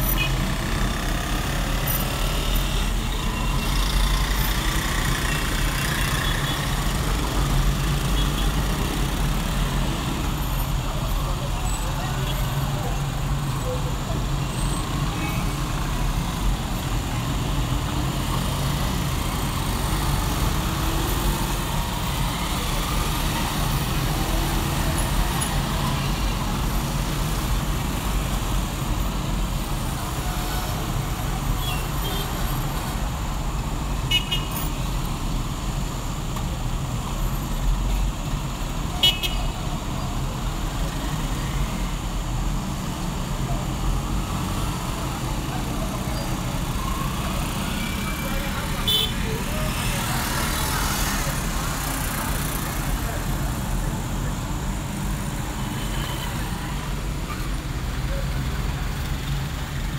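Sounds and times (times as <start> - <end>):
traffic engines rumbling: 0.0 - 59.9.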